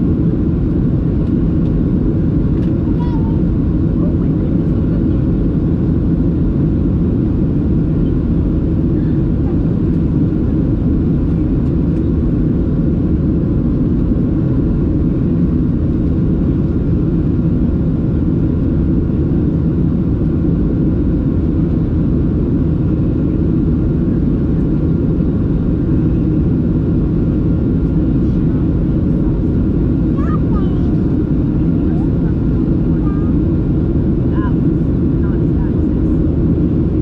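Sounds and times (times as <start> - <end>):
jet engine cabin rumble: 0.0 - 37.0.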